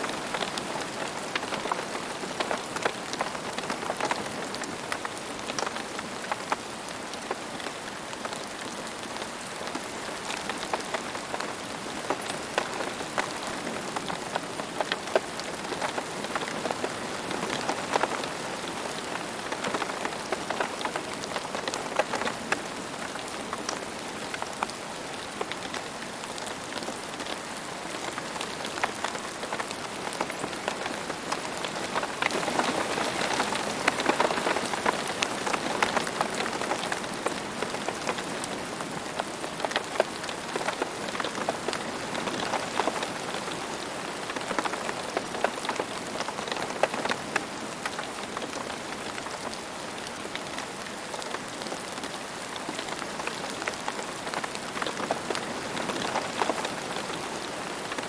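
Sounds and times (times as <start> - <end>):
raindrops pattering: 0.0 - 58.0
steady rain hissing: 0.0 - 58.0.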